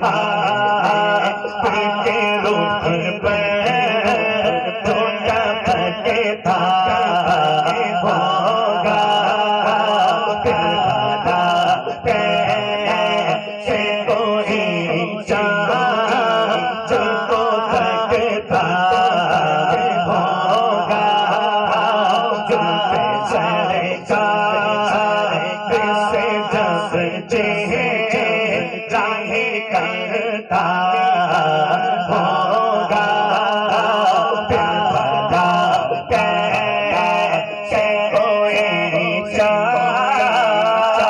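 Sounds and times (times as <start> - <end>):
man chanting through microphone: 0.0 - 41.0.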